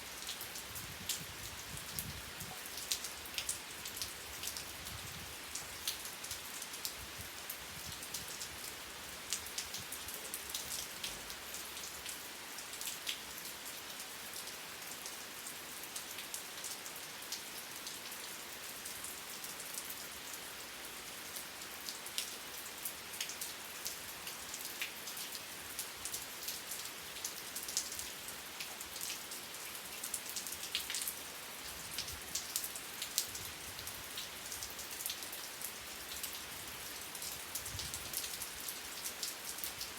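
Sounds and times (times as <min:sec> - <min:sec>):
steady rain: 0:00.0 - 0:39.9
raindrops pattering on a surface: 0:00.2 - 0:15.2, 0:18.9 - 0:39.9.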